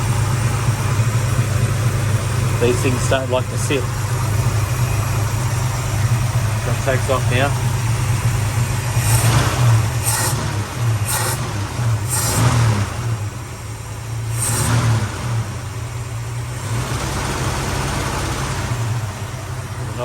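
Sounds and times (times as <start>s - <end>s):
car engine idling with revs: 0.0s - 20.0s.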